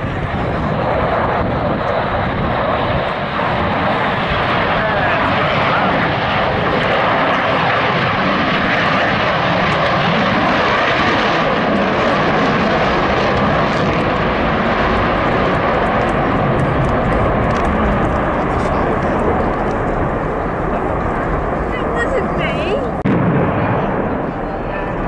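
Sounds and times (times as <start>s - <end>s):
fighter jets with afterburners: 0.0s - 25.0s.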